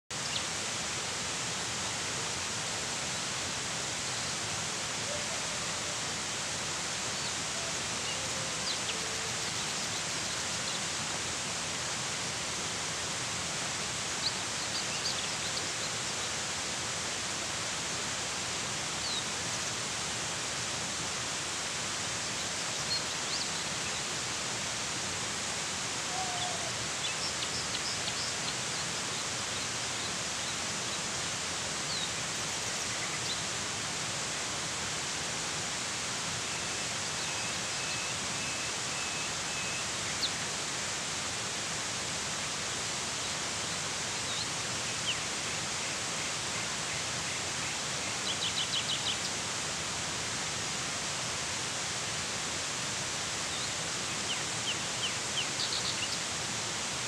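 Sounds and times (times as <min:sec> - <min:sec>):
waterfall rushing: 0:00.1 - 0:57.0.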